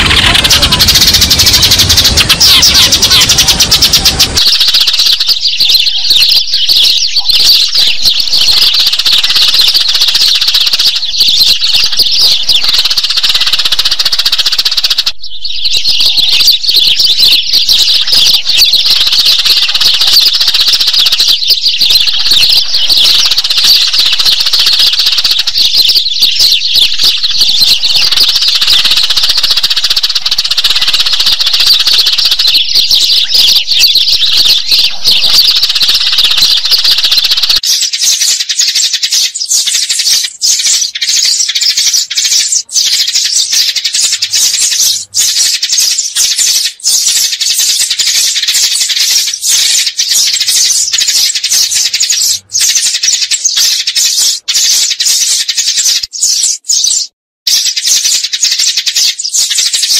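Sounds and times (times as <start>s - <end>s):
sparrows chirping: 0.0s - 59.9s.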